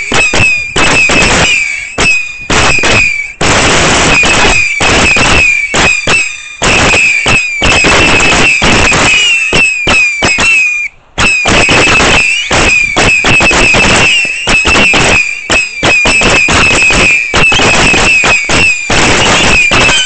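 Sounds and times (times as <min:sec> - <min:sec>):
firework cracks: 0:00.0 - 0:20.0
whistling firework missiles: 0:00.0 - 0:20.0.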